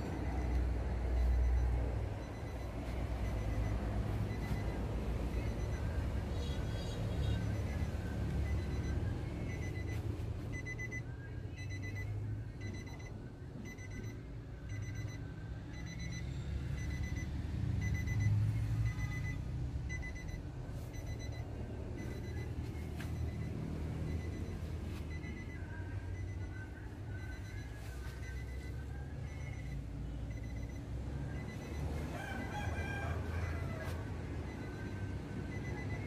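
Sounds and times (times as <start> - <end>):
high electronic warning beeps: 0.0 - 36.0.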